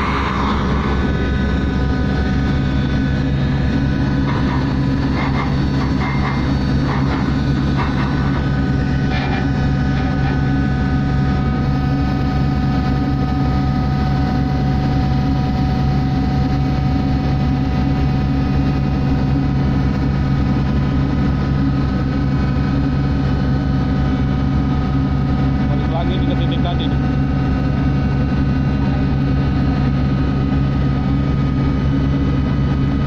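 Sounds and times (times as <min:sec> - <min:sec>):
ship machinery drone: 0:00.0 - 0:33.0
steady whining tones: 0:00.0 - 0:33.0.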